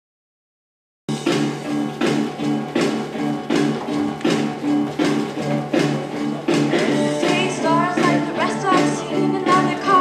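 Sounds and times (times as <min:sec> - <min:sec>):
instrumental music with a beat: 0:01.1 - 0:10.0.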